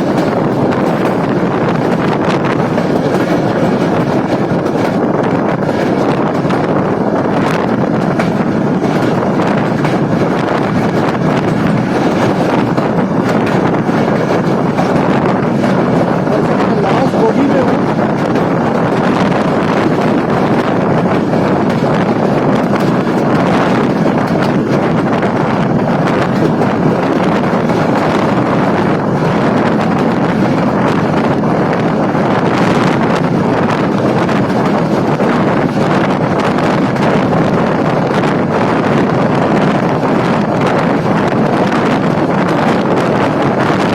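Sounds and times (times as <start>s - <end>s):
moving train running noise: 0.0s - 43.9s
wind buffeting microphone: 0.0s - 43.9s.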